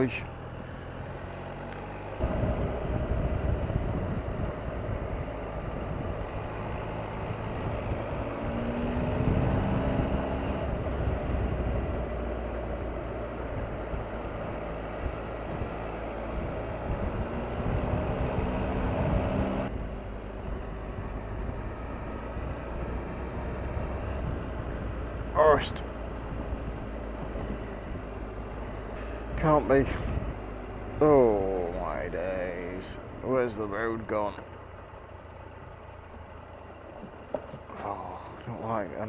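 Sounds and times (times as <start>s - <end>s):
motorcycle engine accelerating: 0.0s - 38.6s
wind and road noise: 0.0s - 39.0s.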